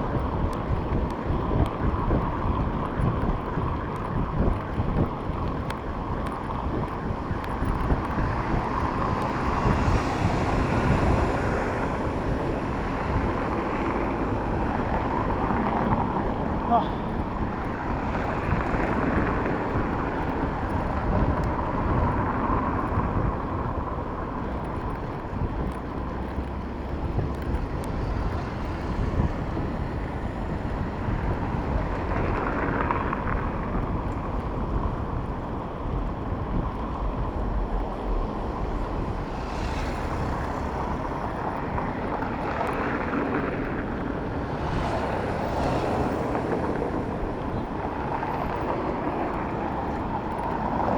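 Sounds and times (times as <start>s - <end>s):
road traffic: 0.0s - 50.9s
wind on microphone: 0.0s - 50.9s.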